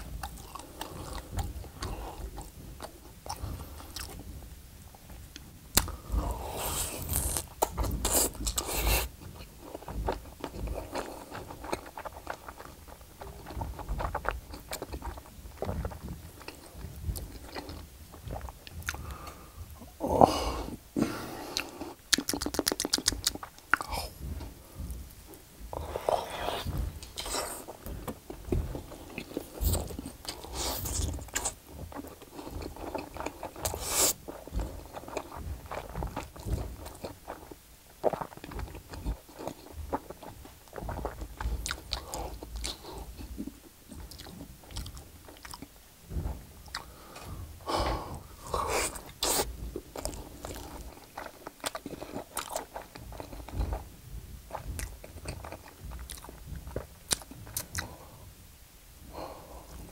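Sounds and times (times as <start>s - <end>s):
biting and chewing: 0.0s - 20.0s, 21.5s - 58.2s
mouth clicks and smacks: 5.1s - 58.1s.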